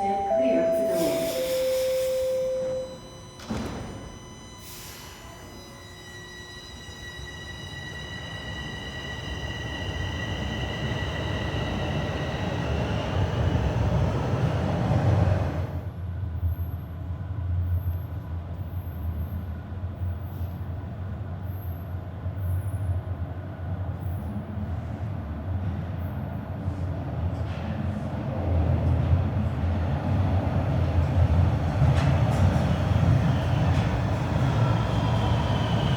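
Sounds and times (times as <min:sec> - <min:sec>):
wheels rumbling on rail: 0:06.8 - 0:35.9.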